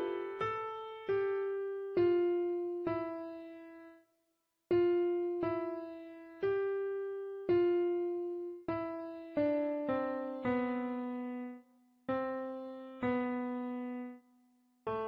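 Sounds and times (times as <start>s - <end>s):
slow piano-like keyboard melody: 0.0s - 15.0s.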